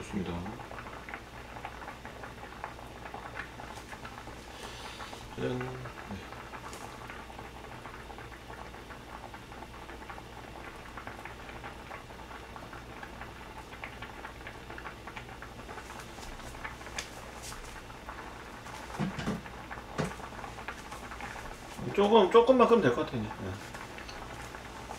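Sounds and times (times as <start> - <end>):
stew bubbling in a pot: 0.0 - 24.9.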